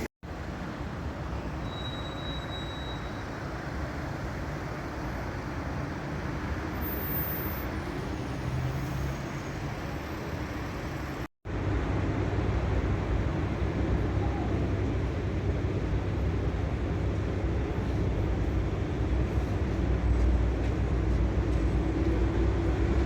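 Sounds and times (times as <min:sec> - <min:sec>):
low rumble of vehicle noise: 0:00.0 - 0:23.0.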